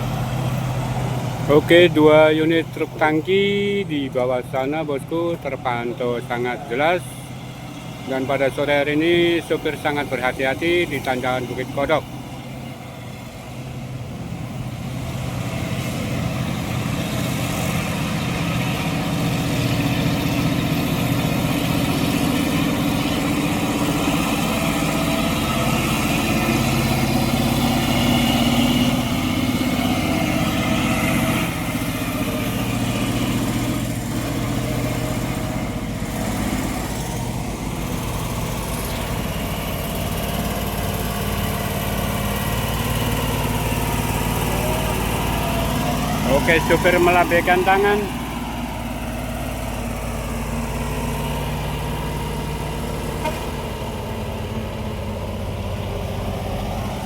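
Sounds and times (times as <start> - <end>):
diesel truck engine labouring uphill: 0.0 - 57.0.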